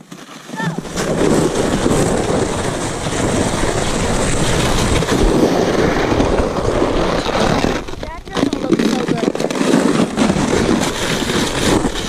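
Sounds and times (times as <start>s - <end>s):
sled scraping over snow: 0.0s - 12.0s.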